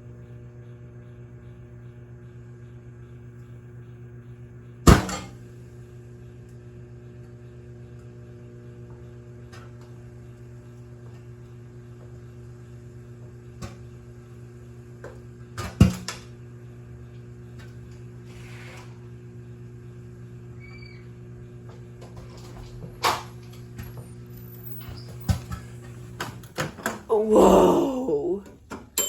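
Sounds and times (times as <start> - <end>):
microwave oven humming: 0.0 - 29.0.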